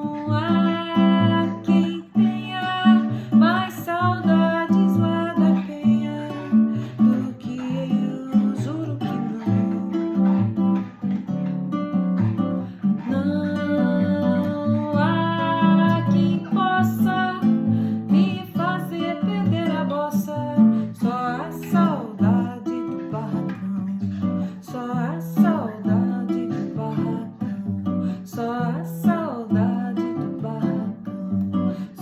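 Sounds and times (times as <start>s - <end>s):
acoustic guitar strummed: 0.0s - 32.0s.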